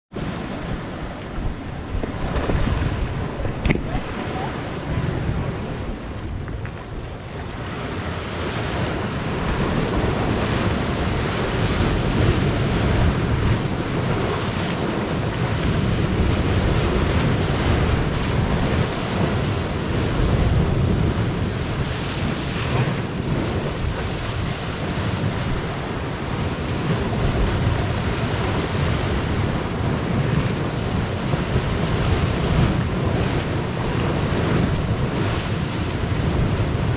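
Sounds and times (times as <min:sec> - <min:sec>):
ocean waves breaking: 0:00.1 - 0:36.9
wind buffeting microphone: 0:00.2 - 0:36.9.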